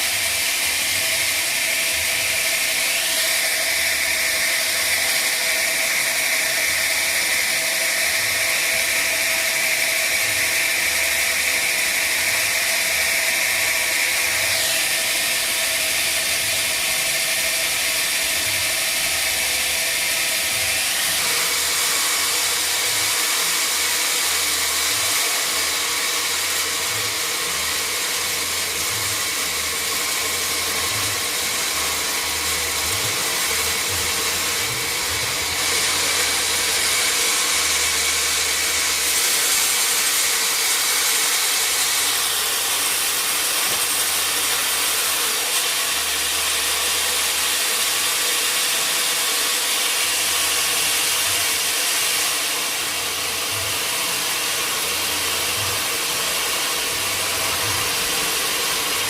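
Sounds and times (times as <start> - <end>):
sawmill saw whining: 0.0 - 59.0.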